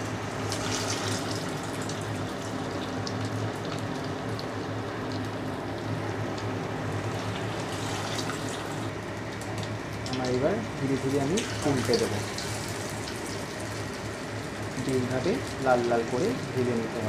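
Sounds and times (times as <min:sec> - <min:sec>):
cutlets sizzling in hot oil: 0:00.0 - 0:16.9
steady low hum: 0:00.0 - 0:17.0.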